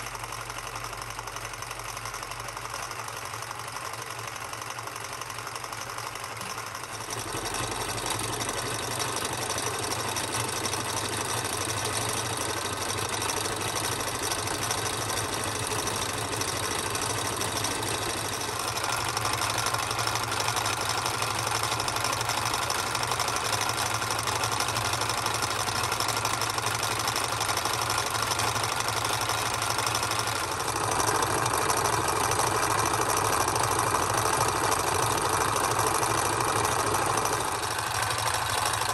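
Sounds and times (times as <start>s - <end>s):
toy engine mechanical clatter: 0.0s - 38.9s.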